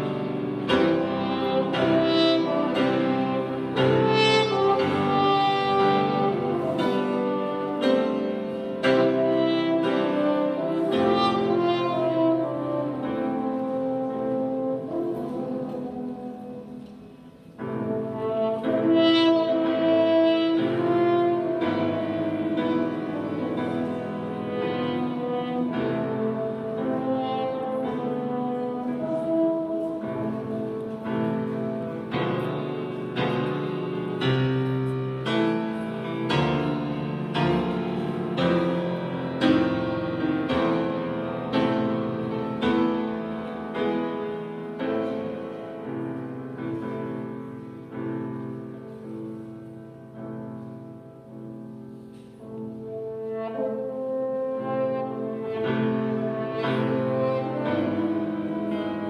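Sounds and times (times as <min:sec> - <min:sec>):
french horns playing melody: 0:00.0 - 0:59.0
grand piano accompaniment: 0:00.0 - 0:59.0.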